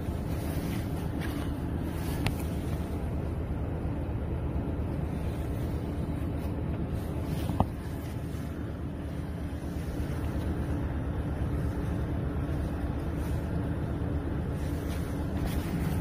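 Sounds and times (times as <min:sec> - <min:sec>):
electric train rumble and hum: 0:00.0 - 0:16.0.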